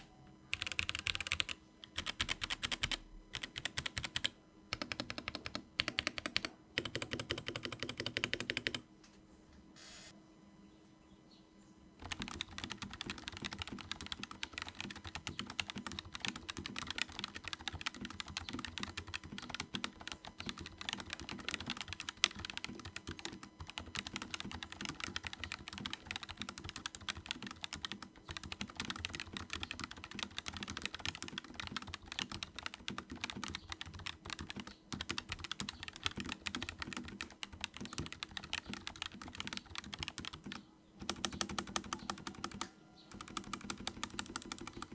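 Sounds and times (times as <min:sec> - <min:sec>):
mechanical keyboard typing: 0:00.0 - 0:08.8, 0:12.0 - 0:44.9.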